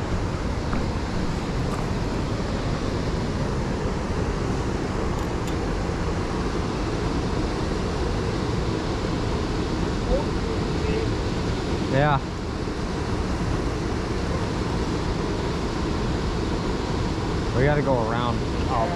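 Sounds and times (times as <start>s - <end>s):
waterfall roaring: 0.0s - 18.9s.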